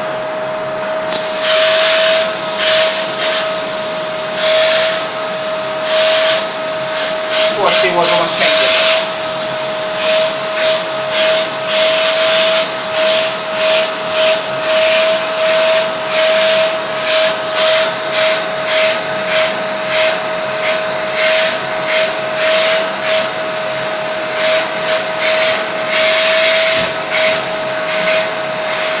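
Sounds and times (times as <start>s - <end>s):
vacuum cleaner motor whine: 0.0s - 29.0s
vacuum airflow hiss: 1.0s - 29.0s.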